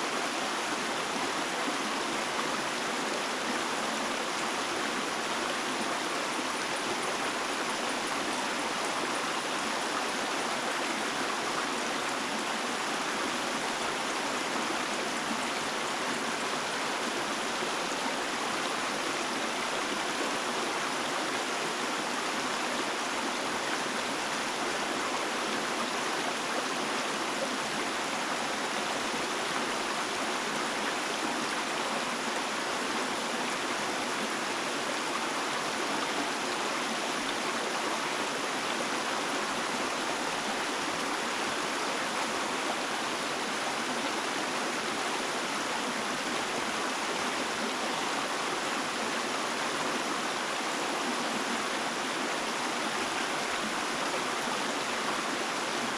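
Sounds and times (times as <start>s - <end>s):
water flowing steadily: 0.0s - 55.9s.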